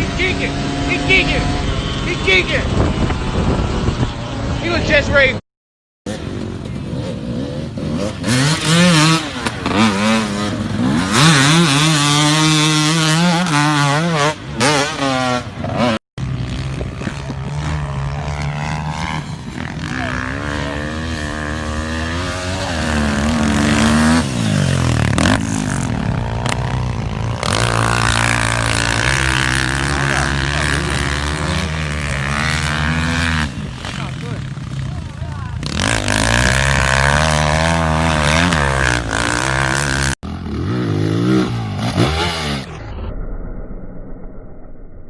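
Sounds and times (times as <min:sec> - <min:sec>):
dirt bike engines revving: 0:00.0 - 0:05.4, 0:06.1 - 0:43.0.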